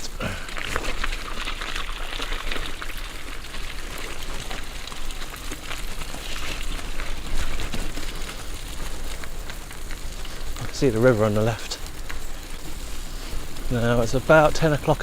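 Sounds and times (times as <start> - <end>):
bicycle tyres on muddy track: 0.0 - 15.0.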